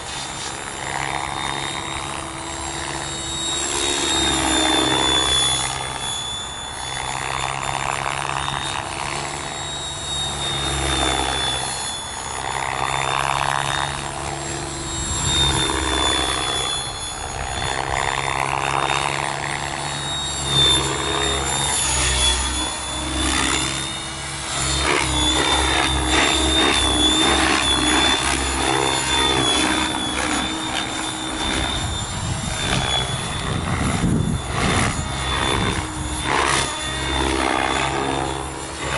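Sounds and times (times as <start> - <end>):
high motor whine: 0.0 - 38.9
rotor blades whooshing: 0.0 - 38.9.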